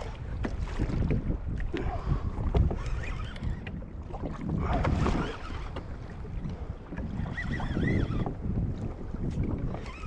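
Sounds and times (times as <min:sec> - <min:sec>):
water lapping against kayak hull: 0:00.0 - 0:10.0
wind buffeting microphone: 0:00.0 - 0:10.0.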